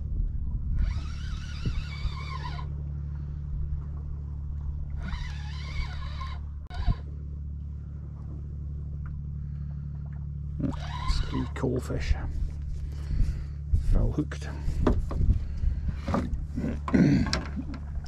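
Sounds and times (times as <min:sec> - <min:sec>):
outboard motor idling: 0:00.0 - 0:18.0.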